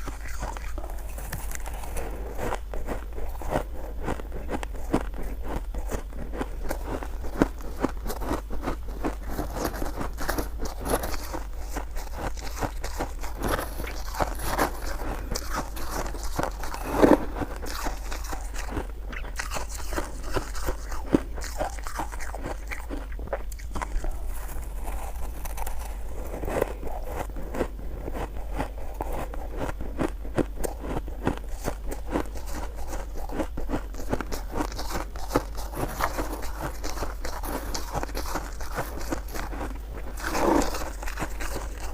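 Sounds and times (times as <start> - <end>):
chewing crunchy shaved ice: 0.0 - 41.9.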